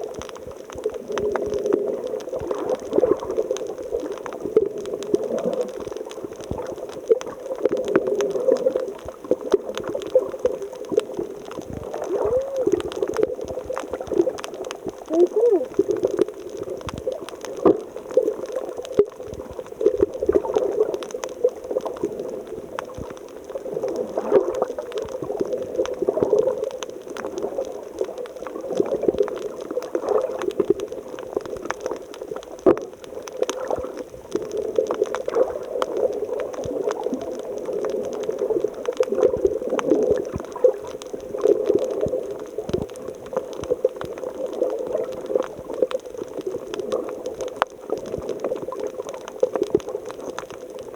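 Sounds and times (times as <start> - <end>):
water bubbling and gurgling: 0.0 - 50.9.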